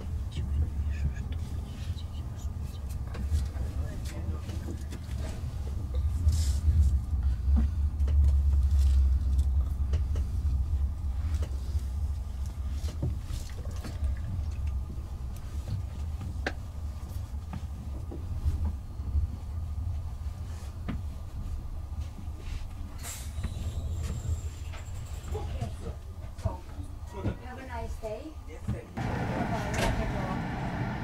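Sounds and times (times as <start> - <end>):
train running gear rumbling: 0.0 - 28.2, 29.0 - 31.0.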